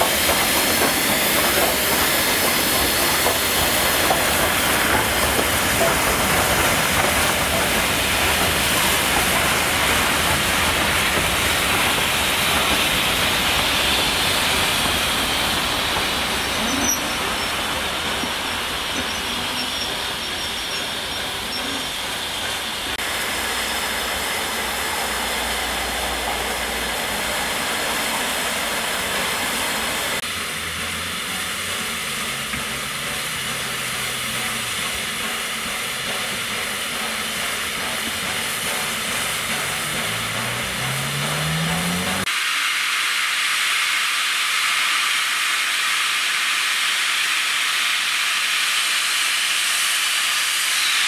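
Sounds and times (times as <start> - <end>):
steam hissing: 0.0 - 51.0.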